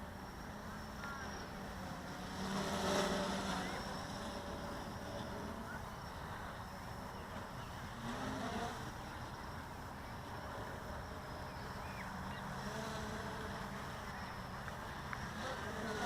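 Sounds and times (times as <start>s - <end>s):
quadcopter motors and propellers: 0.0s - 16.0s.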